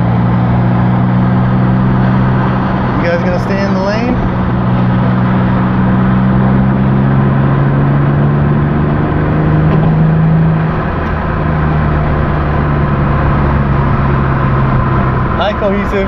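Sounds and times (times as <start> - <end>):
car engine cruising: 0.0 - 16.0
tyre and road noise: 0.0 - 16.0.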